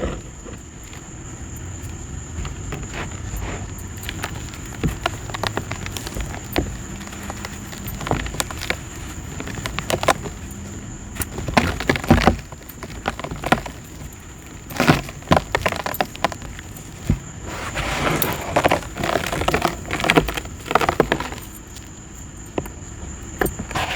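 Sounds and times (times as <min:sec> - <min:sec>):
dry dirt clumps crumbling: 0:00.0 - 0:23.9.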